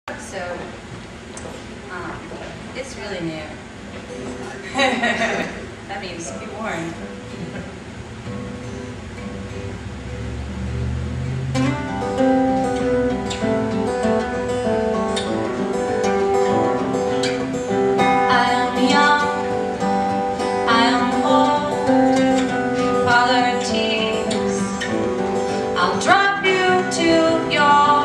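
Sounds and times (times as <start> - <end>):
band music with acoustic guitar: 3.8 - 28.0.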